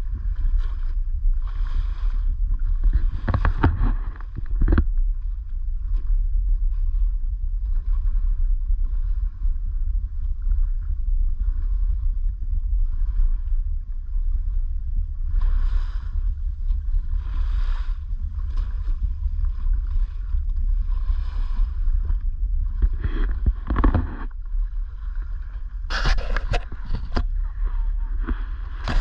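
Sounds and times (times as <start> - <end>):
water lapping and splashing: 0.0 - 29.0
wind on microphone: 0.0 - 29.0.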